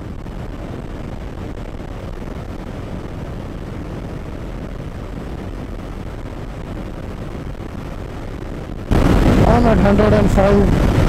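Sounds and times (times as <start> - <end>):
road noise: 0.0 - 11.0
wind rushing: 0.0 - 11.0.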